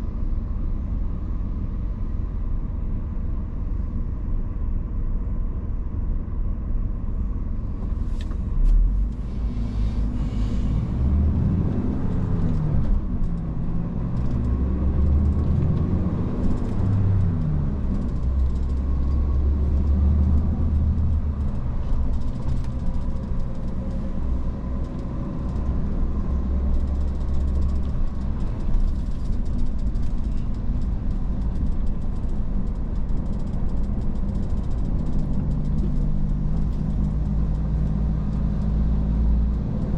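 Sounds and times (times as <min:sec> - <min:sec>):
truck diesel engine driving: 0:00.0 - 0:39.9.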